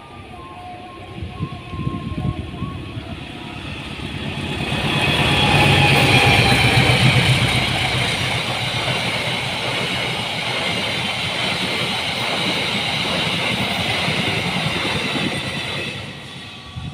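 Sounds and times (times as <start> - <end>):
train wheels rushing on rails: 1.3 - 16.9.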